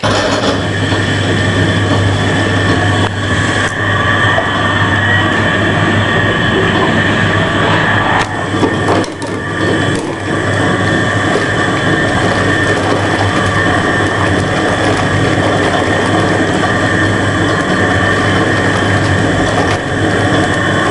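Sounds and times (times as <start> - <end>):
washing machine whirring: 0.0 - 20.9.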